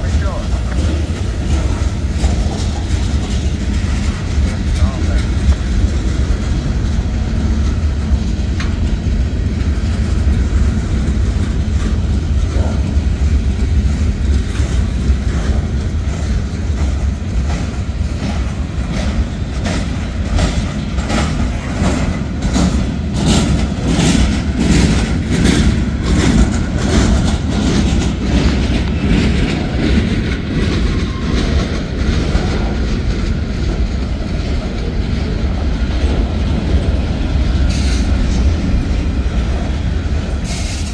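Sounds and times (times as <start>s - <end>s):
train wheels rumbling on rail: 0.0s - 40.9s
wheels clacking over rail joints: 0.0s - 40.9s.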